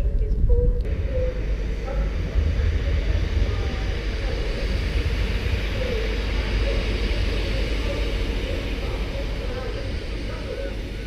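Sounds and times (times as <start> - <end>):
train engine and wheels rumbling: 0.0 - 11.0.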